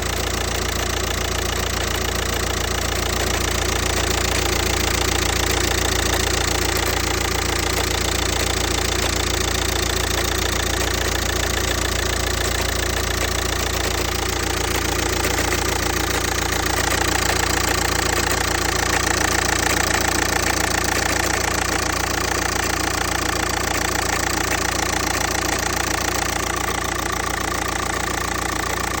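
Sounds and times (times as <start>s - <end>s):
diesel engine idling: 0.0s - 29.0s
engine knocking: 0.0s - 29.0s.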